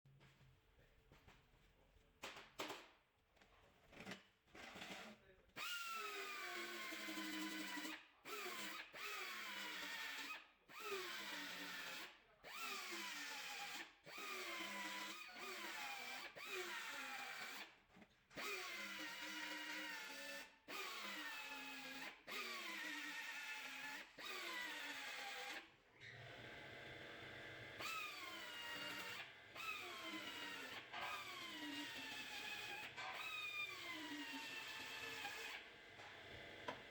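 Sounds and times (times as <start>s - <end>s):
power drill running: 5.6s - 17.7s, 18.4s - 36.9s.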